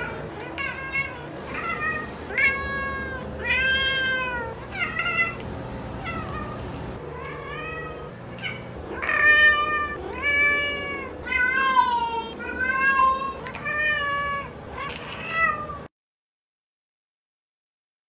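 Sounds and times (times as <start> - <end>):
cat meowing: 0.0 - 5.4, 6.0 - 15.9.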